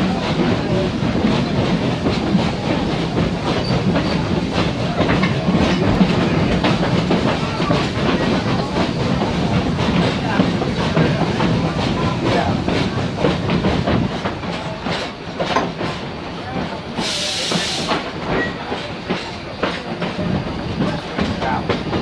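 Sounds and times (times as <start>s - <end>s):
train cars rumbling on track: 0.0s - 22.0s.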